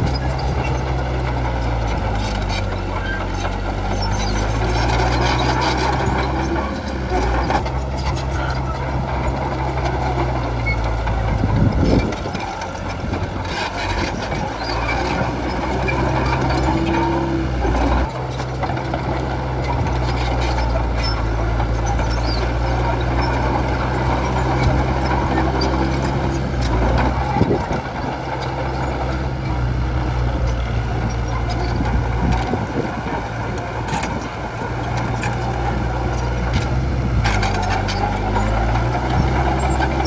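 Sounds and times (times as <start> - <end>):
bulldozer diesel engine under load: 0.0 - 40.0
rough grinding noise: 0.0 - 40.0.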